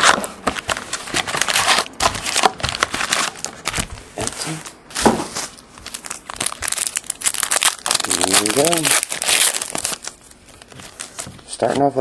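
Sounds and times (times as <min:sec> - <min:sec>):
foil packs crinkling: 0:00.0 - 0:11.3.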